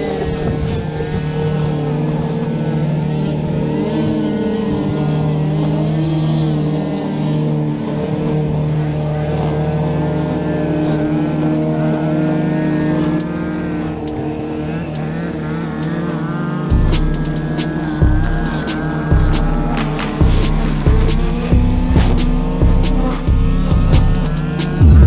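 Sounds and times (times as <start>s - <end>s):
small petrol engine running: 0.0s - 25.0s.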